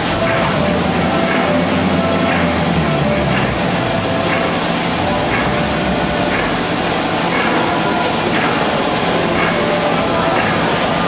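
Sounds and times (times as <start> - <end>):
faint regular beat: 0.0 - 11.0
printing press hiss and hum: 0.0 - 11.0.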